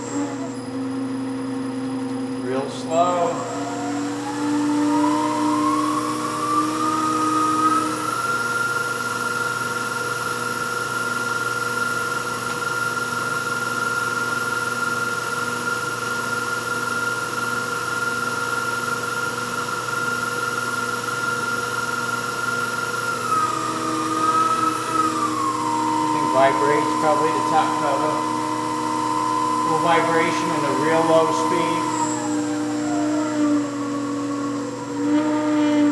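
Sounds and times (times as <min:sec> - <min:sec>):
milling machine whine: 0:00.0 - 0:35.9.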